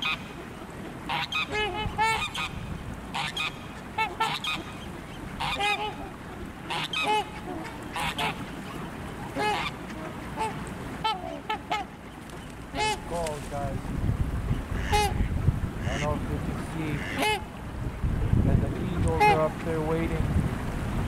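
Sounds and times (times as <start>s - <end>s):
swans honking: 0.0s - 17.8s, 18.6s - 20.1s
steady background hiss: 0.0s - 21.0s.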